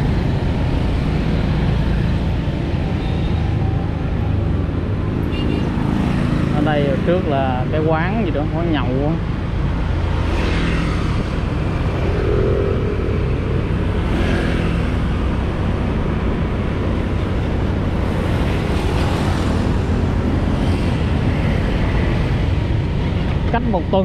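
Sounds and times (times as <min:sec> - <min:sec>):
road and wind noise: 0:00.0 - 0:24.0
vehicles passing by: 0:00.0 - 0:24.0.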